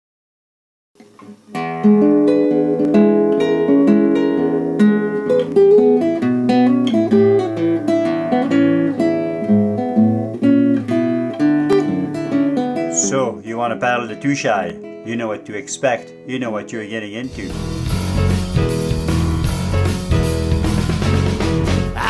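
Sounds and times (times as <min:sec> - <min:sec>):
acoustic guitar strummed and picked: 0:01.0 - 0:22.0.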